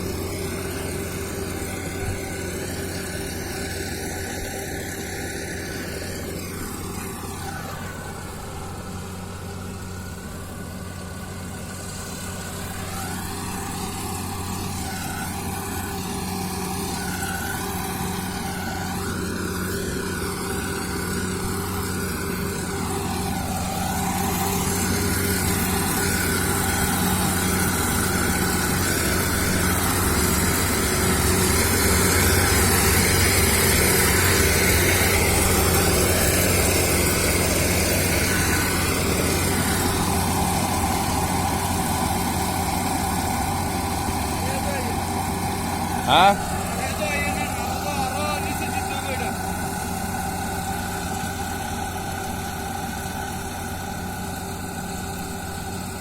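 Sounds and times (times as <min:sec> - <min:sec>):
harvesting machine engine running: 0:00.0 - 0:56.0.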